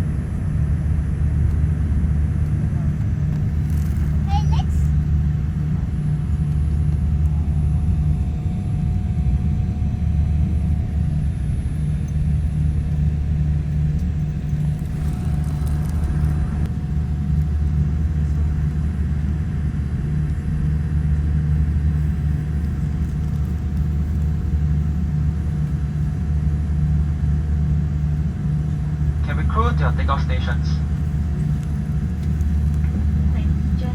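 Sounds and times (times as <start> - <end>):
airliner engines low rumble: 0.0 - 33.9
faint steady hum: 0.0 - 33.9.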